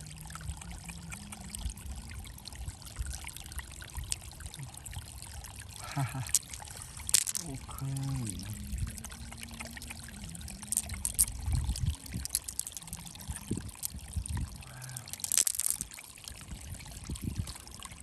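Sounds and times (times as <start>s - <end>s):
water pouring and trickling: 0.0s - 18.0s.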